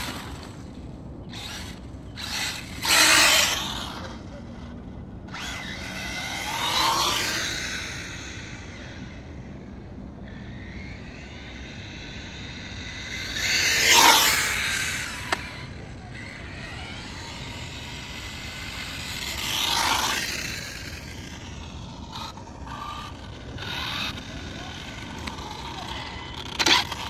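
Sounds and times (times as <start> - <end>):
rc car whine passing: 0.0 - 27.0.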